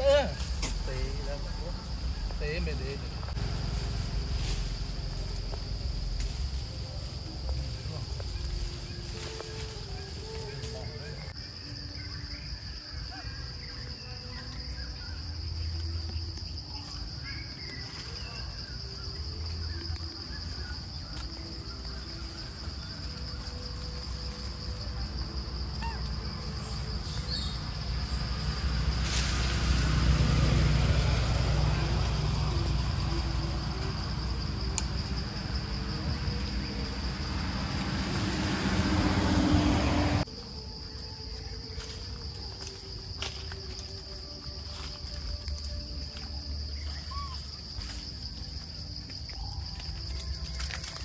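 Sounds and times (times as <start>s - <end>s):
forest insects droning: 0.0s - 51.0s.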